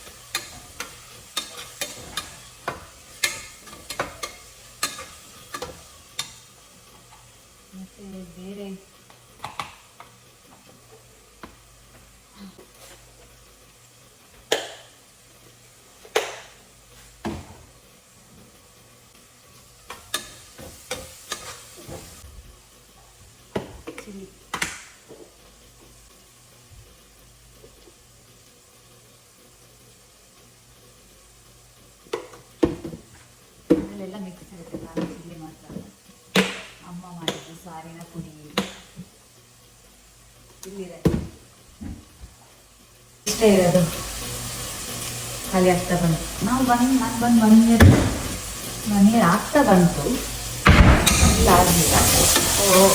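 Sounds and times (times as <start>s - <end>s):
spices sizzling in a pan: 0.0s - 52.9s.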